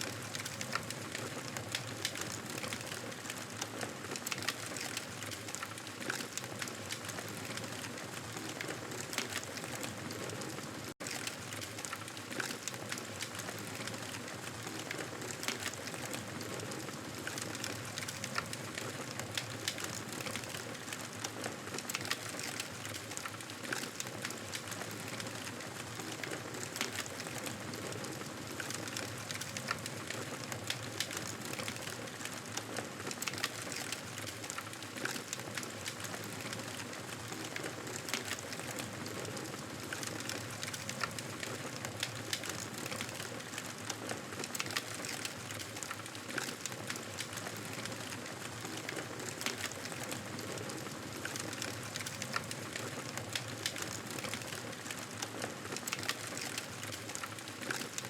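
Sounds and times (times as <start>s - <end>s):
campfire crackling: 0.1s - 58.0s.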